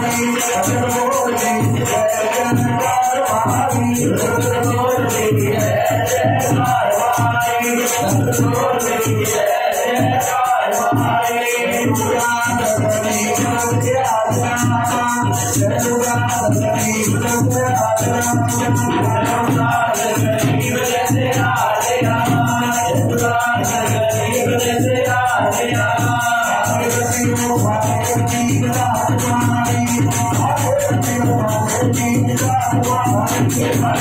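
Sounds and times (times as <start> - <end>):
man singing into a microphone: 0.0 - 34.0
shaken rattle percussion: 0.0 - 34.0.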